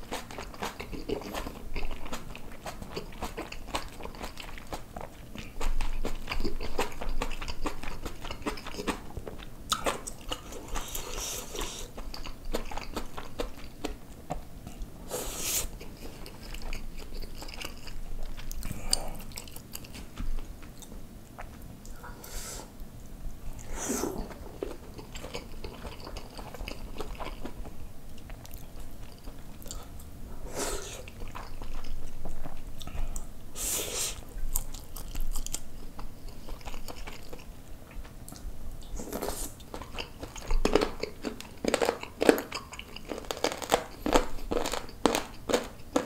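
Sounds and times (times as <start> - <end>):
wet chewing and smacking: 0.0 - 14.9, 15.7 - 22.0, 23.5 - 30.1, 31.0 - 33.3, 34.3 - 46.0.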